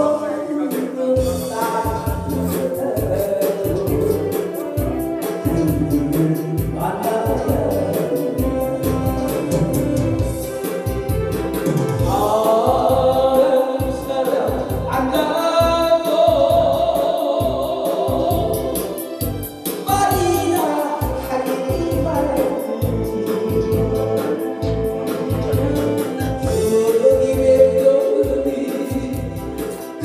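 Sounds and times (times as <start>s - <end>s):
man singing: 0.0s - 11.0s, 11.6s - 19.2s, 19.8s - 30.0s
accompaniment with steady beat: 0.0s - 30.0s.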